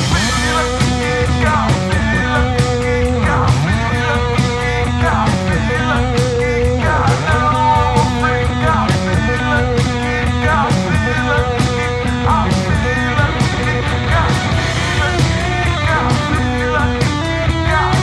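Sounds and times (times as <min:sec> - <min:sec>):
bass guitar: 0:00.0 - 0:18.0
electric guitar: 0:00.0 - 0:18.0
steady drum beat: 0:00.0 - 0:18.0.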